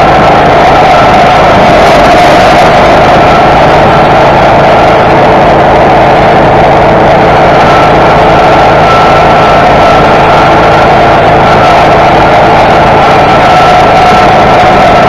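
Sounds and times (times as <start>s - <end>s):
blades cutting dry grass: 0.0s - 15.0s
faint steady whine: 0.0s - 15.0s
mower engine running under load: 0.0s - 15.0s.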